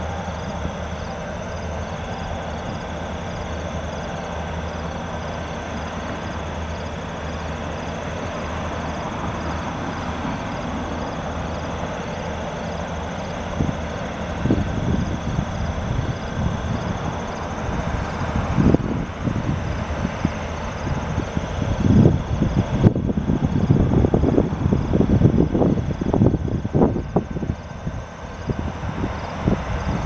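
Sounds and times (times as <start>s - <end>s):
diesel train engine drone: 0.0s - 30.0s
rail noise: 0.0s - 30.0s
wind gusts buffeting microphone: 0.0s - 30.0s.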